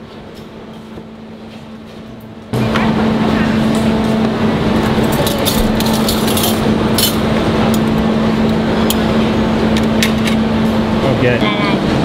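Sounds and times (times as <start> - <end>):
ventilation fans humming: 0.0 - 12.0.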